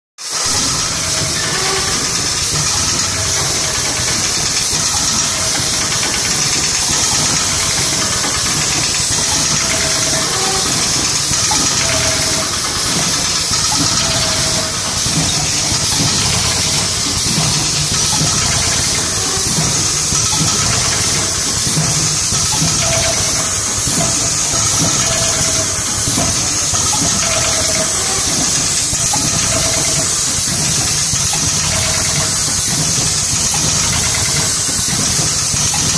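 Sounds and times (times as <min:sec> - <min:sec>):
mechanical hum: 0:00.3 - 0:35.9.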